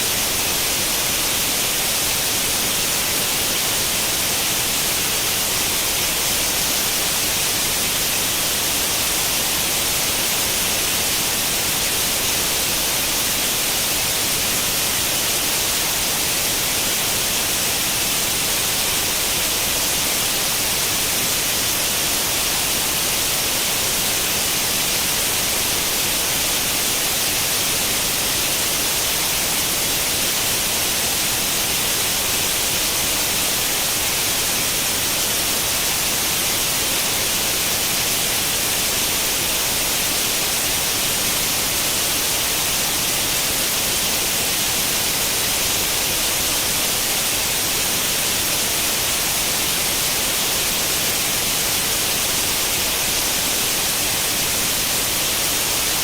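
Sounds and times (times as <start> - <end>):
television static hiss: 0.0 - 56.0.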